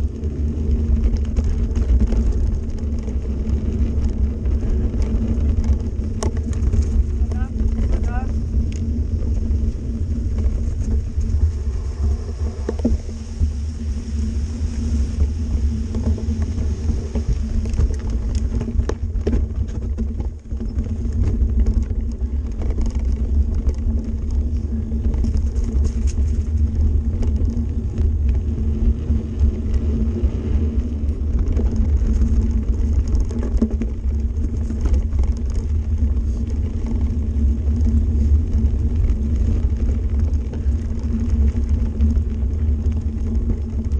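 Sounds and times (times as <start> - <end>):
bike tyres rumbling on gravel: 0.0 - 43.9.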